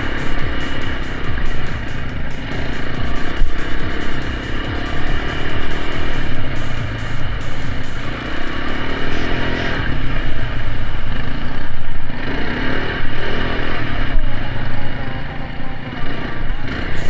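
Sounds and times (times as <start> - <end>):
motorcycle engine running: 0.0 - 17.0
steady rushing noise: 0.0 - 17.0.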